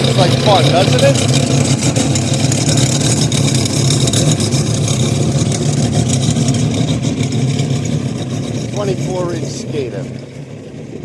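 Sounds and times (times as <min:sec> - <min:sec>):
boat engines idling: 0:00.0 - 0:11.0.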